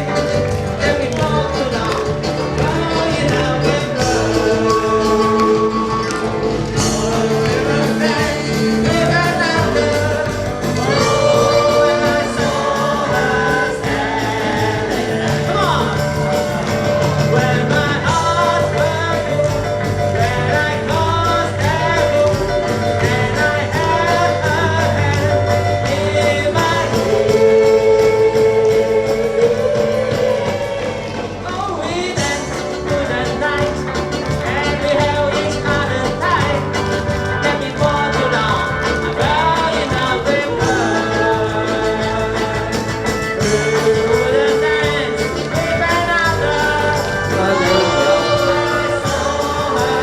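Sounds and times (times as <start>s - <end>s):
live band playing: 0.0s - 50.0s
person singing: 0.0s - 50.0s.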